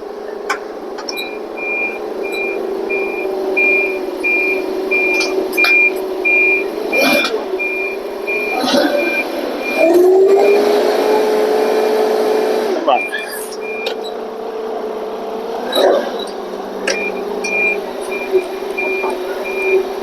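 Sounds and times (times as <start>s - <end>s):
forklift reversing beeper: 1.0s - 12.1s, 12.9s - 20.0s.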